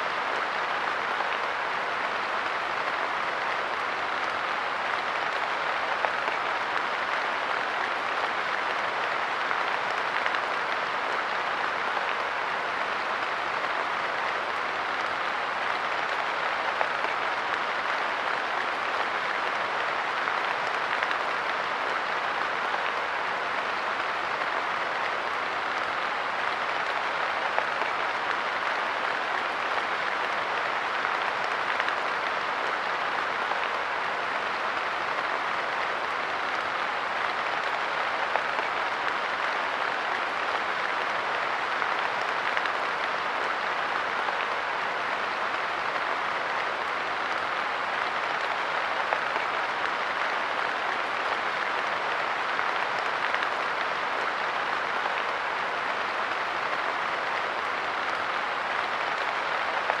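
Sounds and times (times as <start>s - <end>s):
light rain on a bench: 0.0s - 59.9s.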